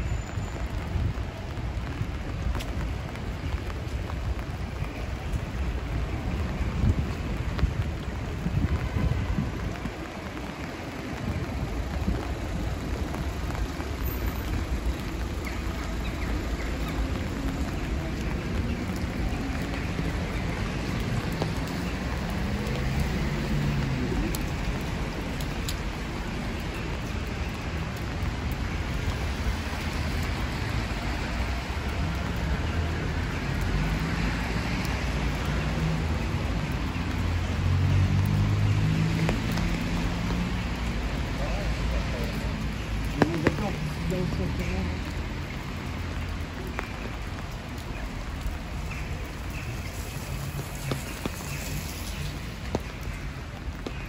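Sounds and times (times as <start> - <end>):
rain on pavement: 0.0 - 54.0.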